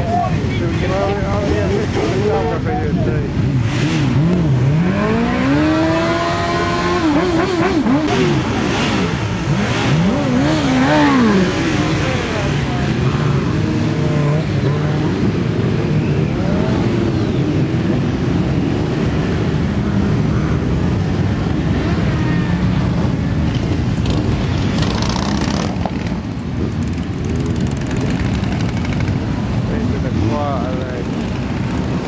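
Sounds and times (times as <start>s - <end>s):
motorcycles revving and passing: 0.0s - 32.0s.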